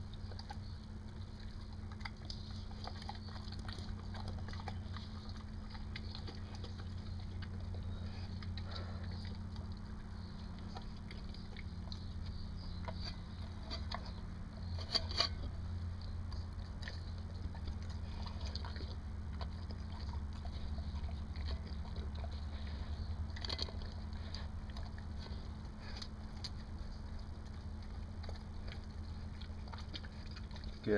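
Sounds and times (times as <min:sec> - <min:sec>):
dog chewing food from metal bowl: 0:00.0 - 0:30.9
low hum: 0:00.0 - 0:30.9.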